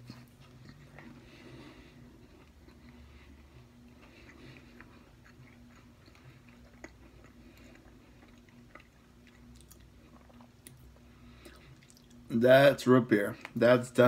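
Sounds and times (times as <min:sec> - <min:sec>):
faint chewing: 0:00.0 - 0:12.4, 0:13.1 - 0:13.8
low steady hum: 0:00.0 - 0:14.0.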